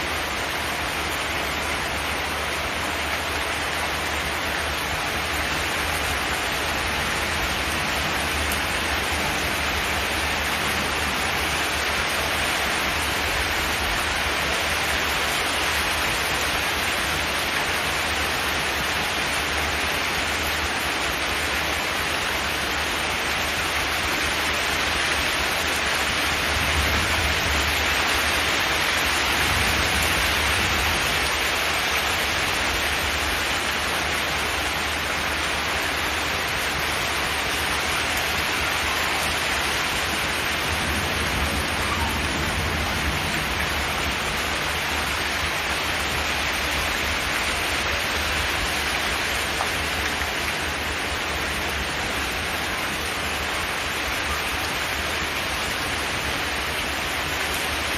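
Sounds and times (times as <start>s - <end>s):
heavy rain on a metal roof: 0.0s - 57.9s.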